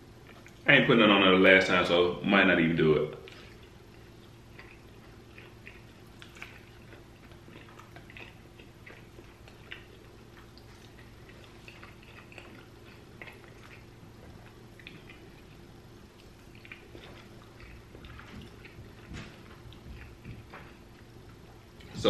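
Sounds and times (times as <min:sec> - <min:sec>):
man chewing with mouth clicks: 0:00.0 - 0:00.7, 0:03.1 - 0:22.0
faint steady hum: 0:00.0 - 0:22.0.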